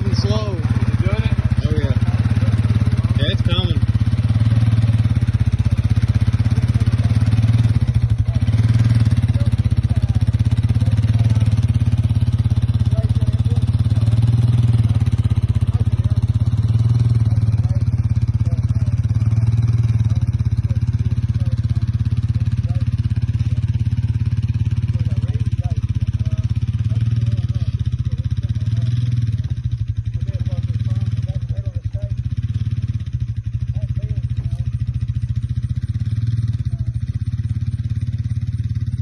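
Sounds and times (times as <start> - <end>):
engine running under load: 0.0 - 39.0.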